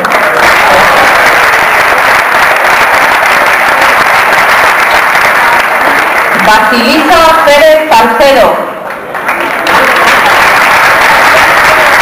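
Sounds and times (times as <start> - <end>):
audience applauding: 0.0 - 6.6, 8.8 - 12.0.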